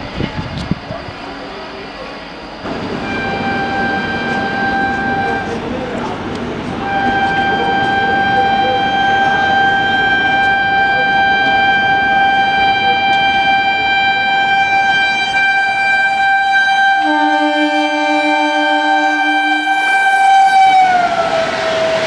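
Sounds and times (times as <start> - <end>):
train running at high speed: 0.0 - 22.0
locomotive horn: 2.7 - 5.6, 6.8 - 22.0.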